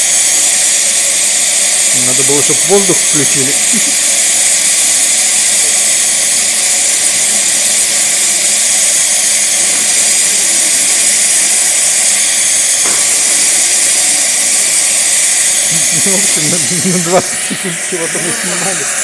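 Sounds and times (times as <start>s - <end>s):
loud hiss of gas jet: 0.0s - 19.0s.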